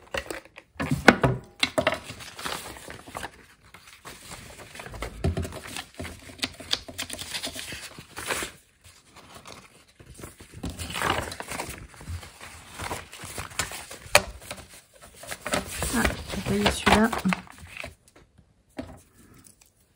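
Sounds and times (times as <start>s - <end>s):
paper rustling and crinkling: 1.8s - 19.9s.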